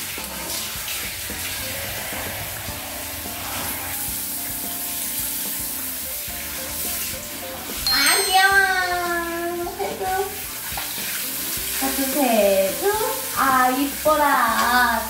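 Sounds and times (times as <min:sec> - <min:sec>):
shower head spraying water: 0:02.8 - 0:15.0.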